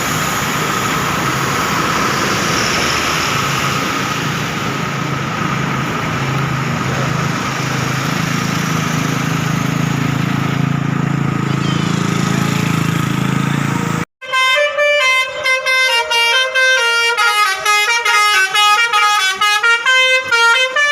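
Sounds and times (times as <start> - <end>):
road traffic engines running: 0.0 - 20.9.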